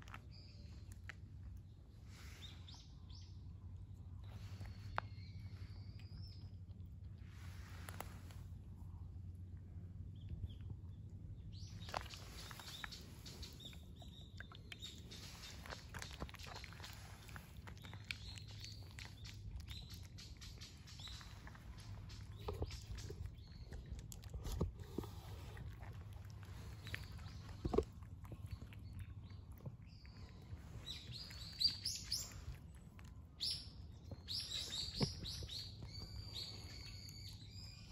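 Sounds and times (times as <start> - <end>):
cats chewing and lapping: 0.0 - 37.9
low steady hum: 0.0 - 37.9
faint bird chirps: 1.6 - 6.8, 10.1 - 25.6, 26.4 - 37.9.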